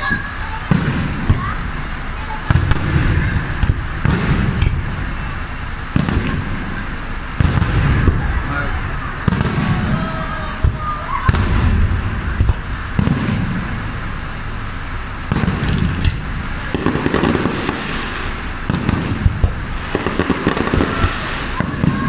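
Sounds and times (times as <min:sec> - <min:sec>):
deep rumble: 0:00.0 - 0:22.0
fireworks shells bursting: 0:00.0 - 0:22.0.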